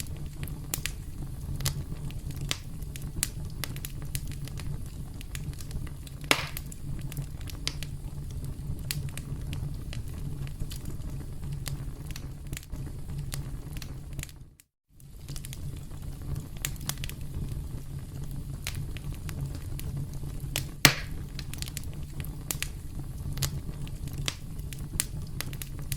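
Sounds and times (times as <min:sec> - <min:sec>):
campfire crackling and popping: 0:00.0 - 0:25.9
low rumble of flame: 0:00.0 - 0:25.9.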